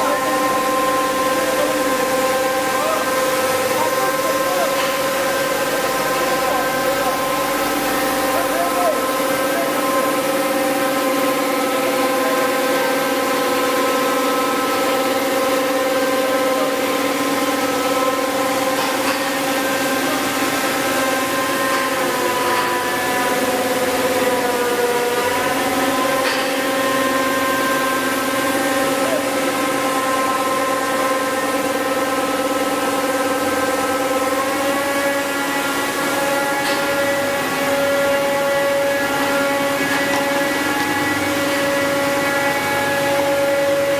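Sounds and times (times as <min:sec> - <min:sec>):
machine whine: 0:00.0 - 0:43.9.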